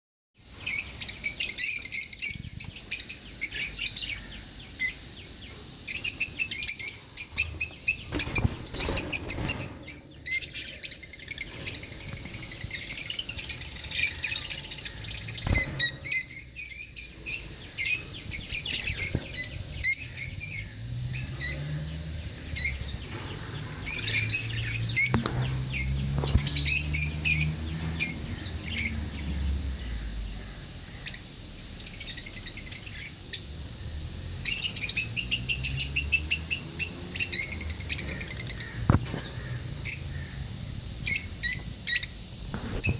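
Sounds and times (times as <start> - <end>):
lovebirds chirping: 0.5 - 42.9.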